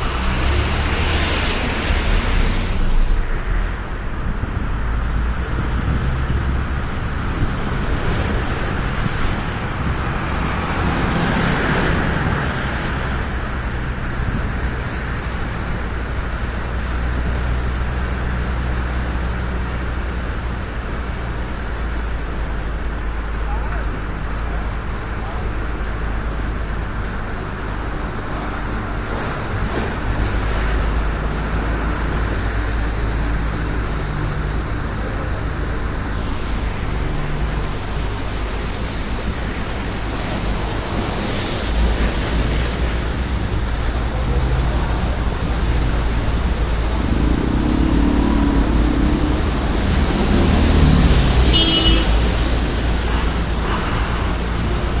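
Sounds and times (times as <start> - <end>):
floodwater rushing: 0.0 - 55.0
wind rumble on microphone: 0.0 - 55.0.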